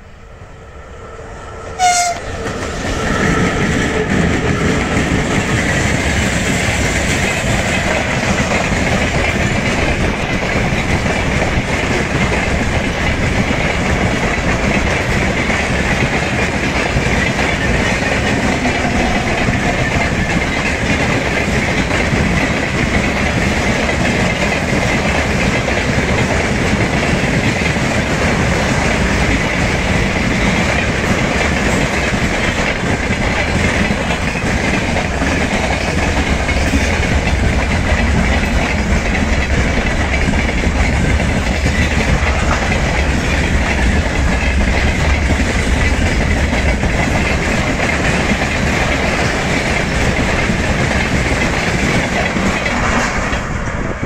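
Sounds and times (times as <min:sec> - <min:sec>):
low train rumble: 0:00.0 - 0:54.0
train wheels running on rails: 0:00.0 - 0:54.0.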